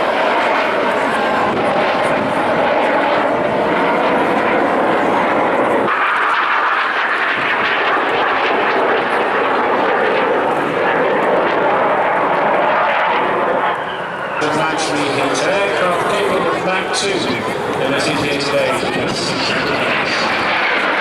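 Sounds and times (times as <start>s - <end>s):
aircraft engine rushing: 0.0s - 21.0s.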